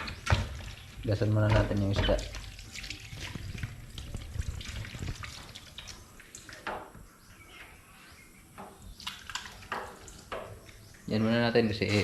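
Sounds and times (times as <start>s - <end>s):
water splashing and dripping: 0.0s - 7.1s, 8.6s - 12.0s.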